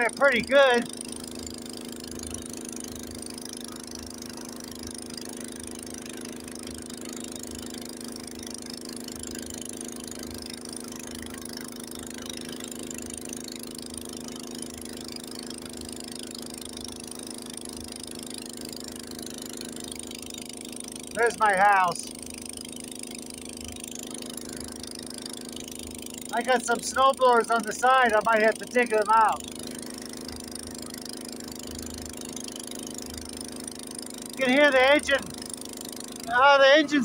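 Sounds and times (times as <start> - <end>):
snowblower engine running: 0.0 - 37.0.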